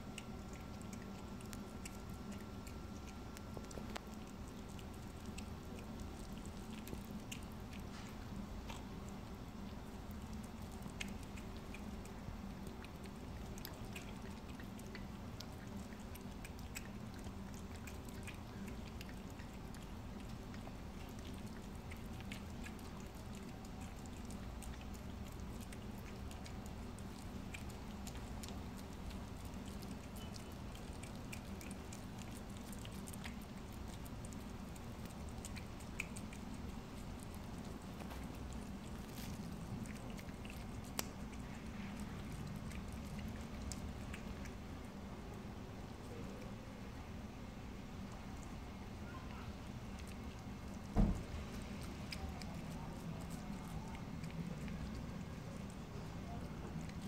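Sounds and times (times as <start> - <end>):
cat eating wet food: 0.0 - 57.0
low background hum: 0.0 - 57.0.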